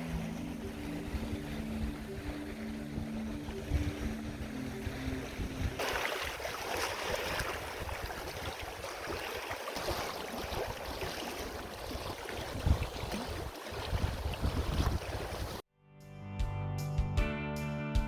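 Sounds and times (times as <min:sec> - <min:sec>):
waves lapping against rocks: 0:00.0 - 0:15.6
wind rumbling on microphone: 0:00.0 - 0:15.6.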